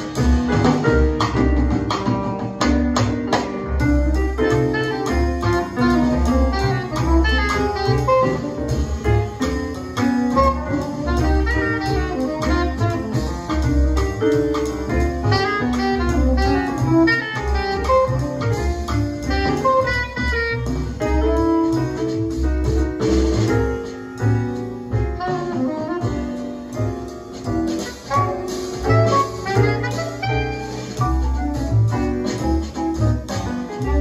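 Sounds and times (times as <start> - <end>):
bass line: 0.0 - 34.0
piano: 0.0 - 34.0
saxophone playing jazz: 3.8 - 34.0.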